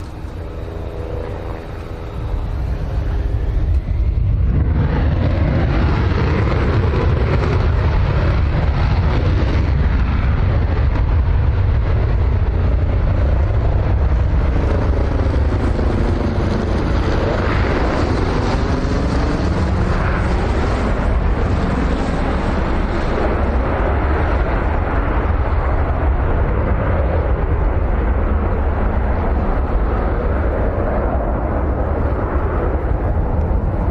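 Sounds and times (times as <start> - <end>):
jet engine in afterburner: 0.0 - 33.9.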